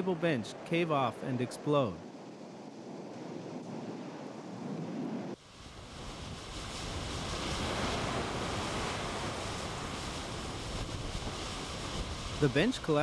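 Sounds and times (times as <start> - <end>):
ocean surf: 0.0 - 13.0
steady rushing noise: 0.0 - 13.0.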